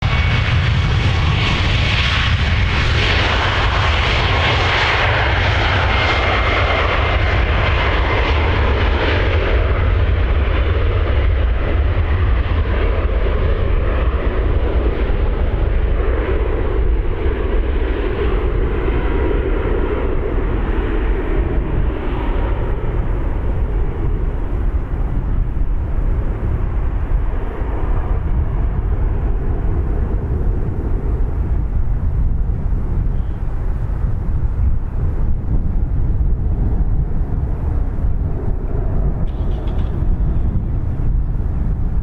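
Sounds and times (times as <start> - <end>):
jet engines at takeoff: 0.0 - 42.0.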